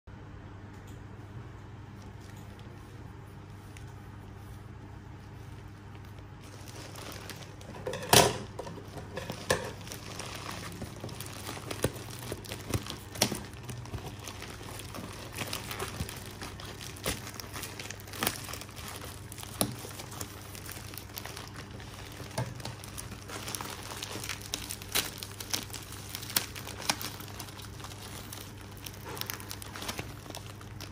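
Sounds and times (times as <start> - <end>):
faint low hum: 0.1 - 30.9
plastic mailer crinkling: 2.0 - 30.9.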